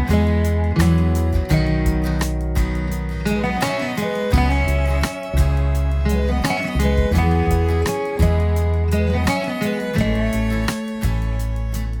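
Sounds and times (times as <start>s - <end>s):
steady bass line: 0.0s - 12.0s
strummed acoustic guitar: 0.0s - 12.0s.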